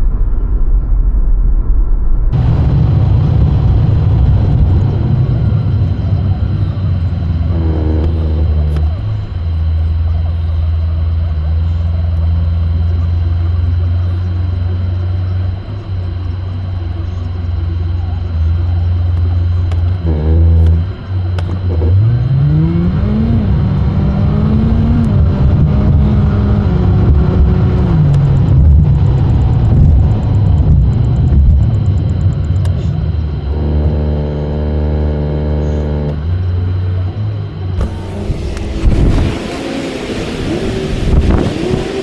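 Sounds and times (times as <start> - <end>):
car engine and road drone: 0.0 - 42.0.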